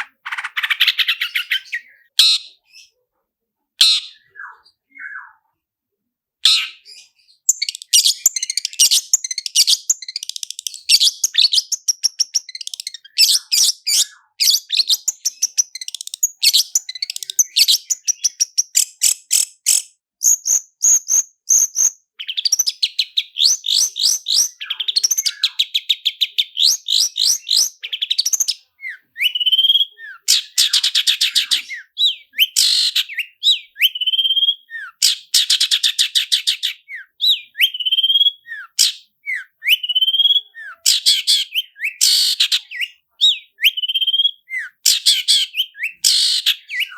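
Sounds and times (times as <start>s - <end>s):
bird singing rapid trills: 0.0s - 2.1s, 6.6s - 46.9s.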